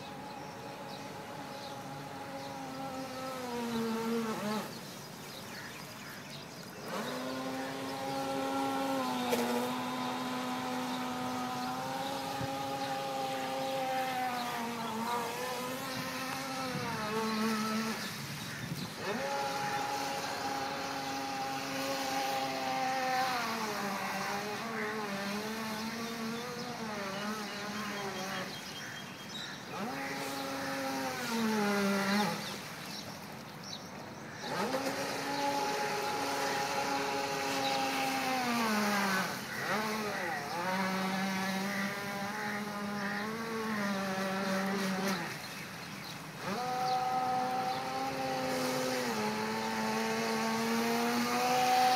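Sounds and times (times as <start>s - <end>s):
electric motor whining: 0.0s - 6.2s, 6.8s - 33.2s, 34.3s - 51.9s.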